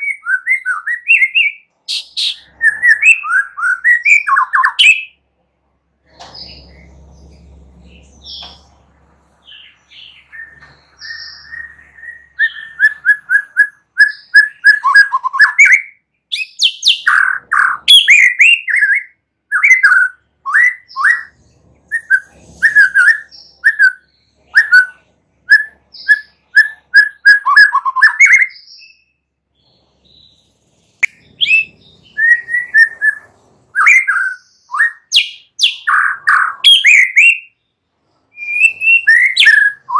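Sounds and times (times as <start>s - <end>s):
songbird singing: 0.0s - 5.2s, 6.1s - 39.9s.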